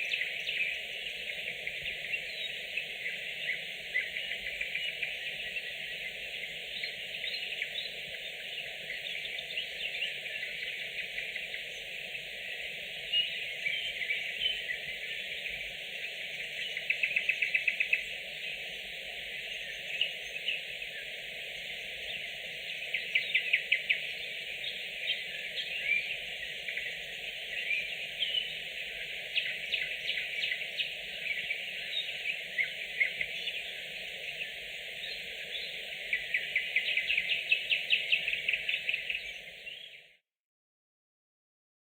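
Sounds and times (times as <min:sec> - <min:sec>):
nightingale singing: 0:00.0 - 0:11.9, 0:13.0 - 0:18.8, 0:19.4 - 0:40.2
steady background hiss: 0:00.0 - 0:39.9.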